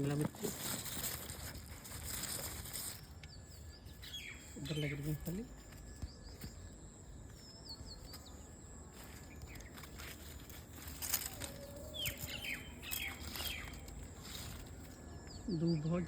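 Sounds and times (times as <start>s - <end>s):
rustles and clicks: 0.0s - 15.3s
small birds chirping: 0.0s - 16.0s.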